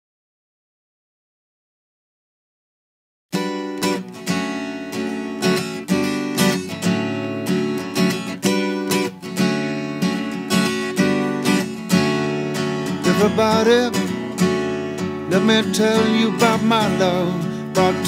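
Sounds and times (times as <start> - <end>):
acoustic guitar strumming: 3.4 - 18.0.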